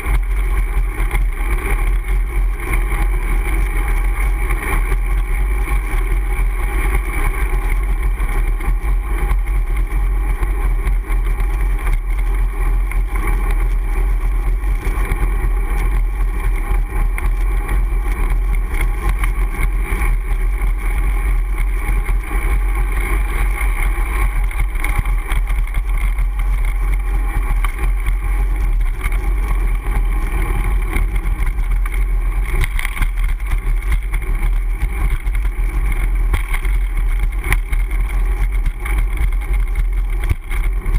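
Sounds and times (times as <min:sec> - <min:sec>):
bicycle riding rumble: 0:00.0 - 0:40.9
wind noise: 0:00.0 - 0:40.9.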